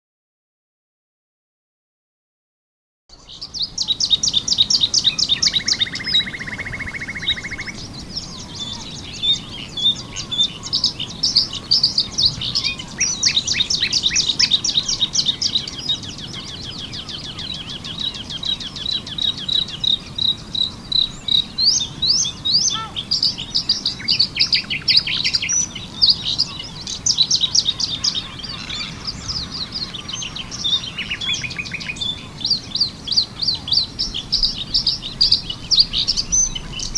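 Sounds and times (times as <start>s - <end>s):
background nightingale singing: 3.1s - 36.9s
bird singing rapid trills: 3.1s - 36.9s.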